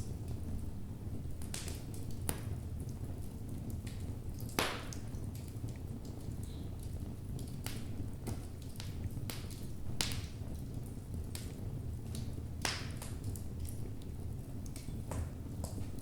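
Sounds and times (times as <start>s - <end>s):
logs crackling in a fireplace: 0.0s - 16.0s.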